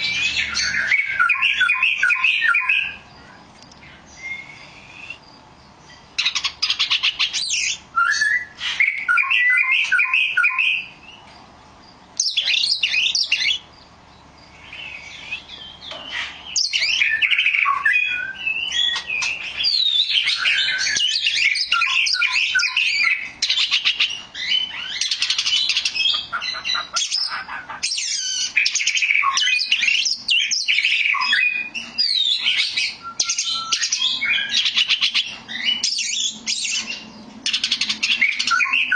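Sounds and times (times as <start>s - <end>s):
bird singing whistles and trills: 0.0s - 3.2s, 3.8s - 11.3s, 12.2s - 38.9s.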